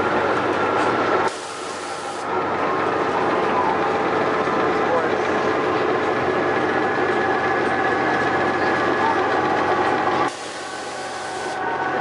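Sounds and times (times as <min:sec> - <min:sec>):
miniature train engine drone: 0:00.0 - 0:12.0.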